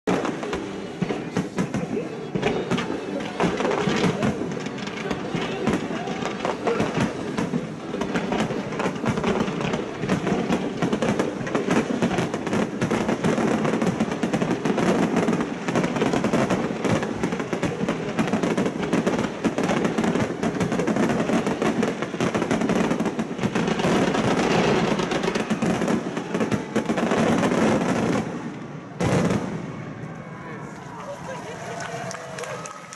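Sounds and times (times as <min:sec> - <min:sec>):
fireworks bursting and crackling: 0:00.0 - 0:30.1, 0:30.9 - 0:32.9.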